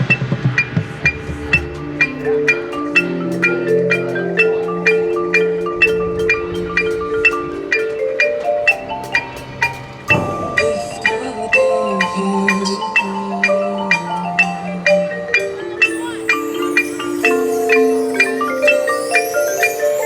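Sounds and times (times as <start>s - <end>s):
mallet percussion ringing notes: 0.0s - 20.0s
sustained band chords: 0.0s - 20.0s.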